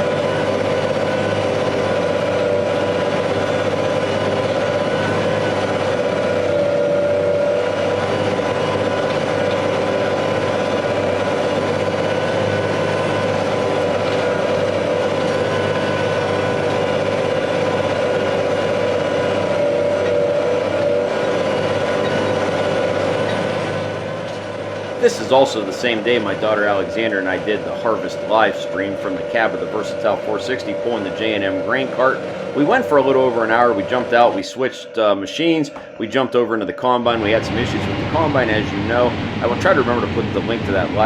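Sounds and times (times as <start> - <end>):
harvest machinery engine hum: 0.0 - 41.0
machinery whining tones: 0.0 - 41.0.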